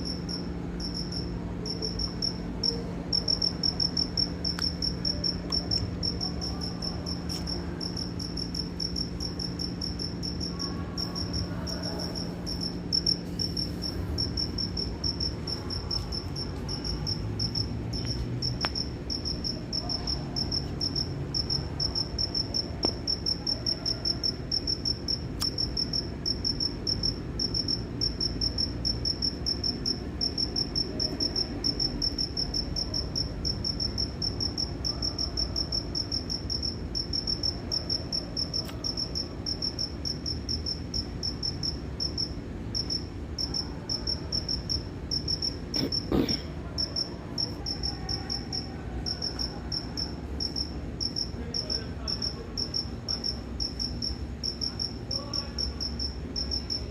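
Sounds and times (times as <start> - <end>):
cricket chirping: 0.0 - 56.9
low background hum: 0.0 - 56.9.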